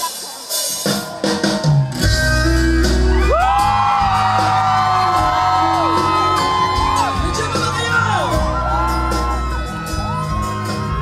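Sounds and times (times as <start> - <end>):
crowd shouting and whooping: 0.0 - 11.0
live band playing: 0.0 - 11.0.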